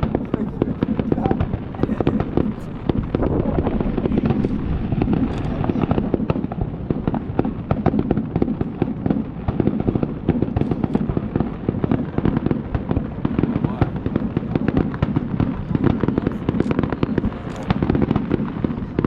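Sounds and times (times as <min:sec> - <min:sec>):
continuous rumble: 0:00.0 - 0:19.0
fireworks bangs and crackles: 0:00.0 - 0:19.0.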